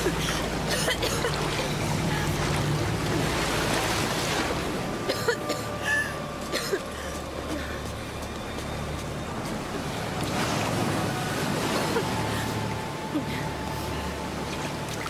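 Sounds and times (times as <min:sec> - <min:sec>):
ocean surf breaking: 0:00.0 - 0:07.4, 0:09.0 - 0:14.9.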